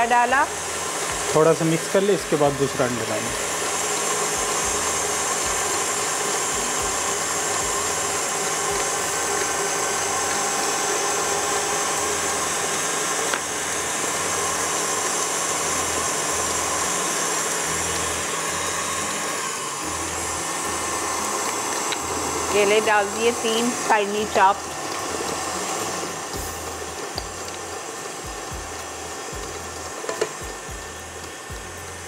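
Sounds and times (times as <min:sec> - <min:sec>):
stand mixer running: 0:00.0 - 0:32.0.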